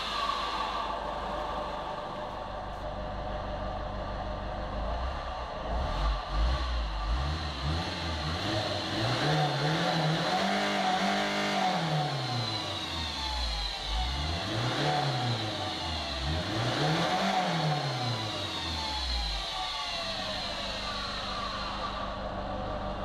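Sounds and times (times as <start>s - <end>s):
diesel engine accelerating: 0.0s - 23.0s.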